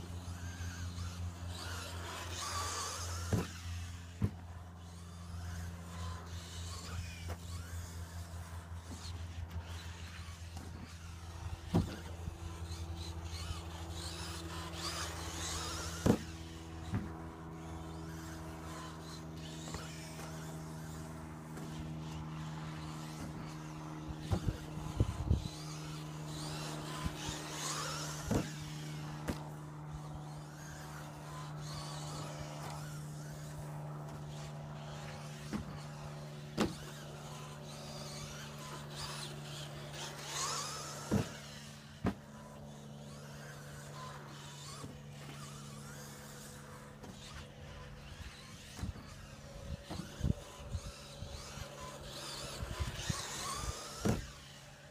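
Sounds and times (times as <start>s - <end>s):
rc car motor whine: 0.0s - 54.9s
rc car landing clacks: 0.3s - 23.6s, 24.2s - 54.6s.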